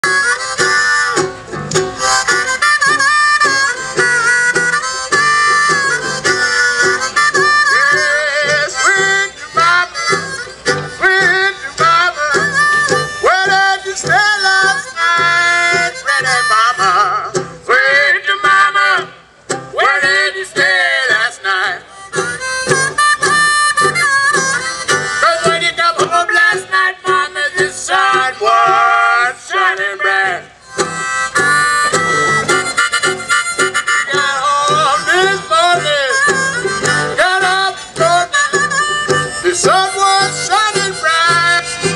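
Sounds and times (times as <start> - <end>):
strummed banjo: 0.0 - 41.9.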